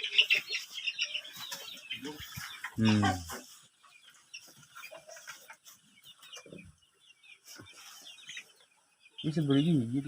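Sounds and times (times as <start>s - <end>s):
hens clucking and chirping: 0.0s - 10.0s.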